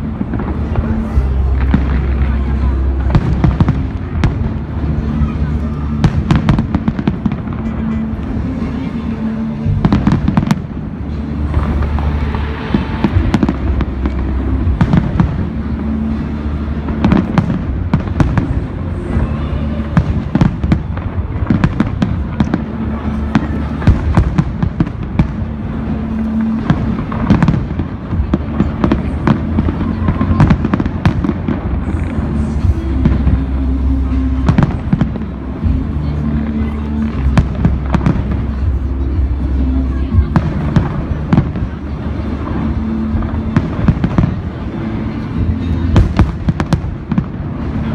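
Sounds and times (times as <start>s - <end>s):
fireworks bursting and crackling: 0.0s - 47.9s
music over loudspeakers: 0.0s - 47.9s.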